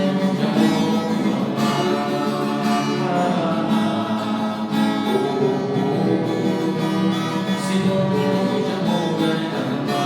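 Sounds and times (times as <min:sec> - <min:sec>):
acoustic guitar strumming: 0:00.0 - 0:10.0
person singing: 0:00.0 - 0:10.0.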